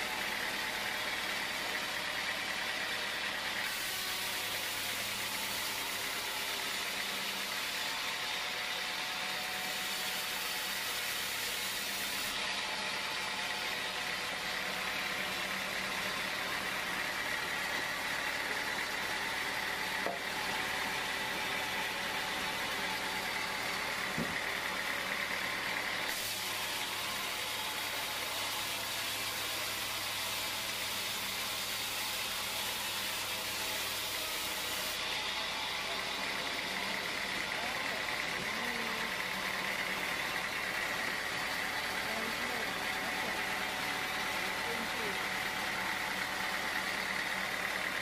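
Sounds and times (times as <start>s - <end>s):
band saw cutting log: 0.0s - 48.0s.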